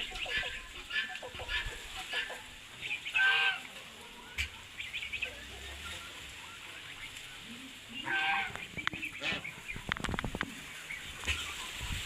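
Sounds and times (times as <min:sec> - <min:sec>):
fowl calling: 0:00.0 - 0:12.0.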